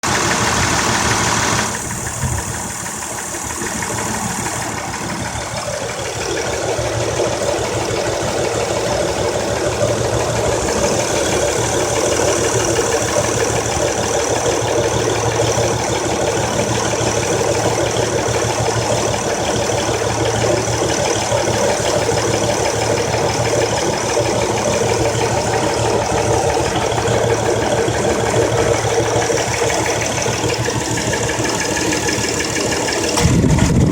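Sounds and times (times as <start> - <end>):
car engine idling with misfire: 0.0 - 33.9.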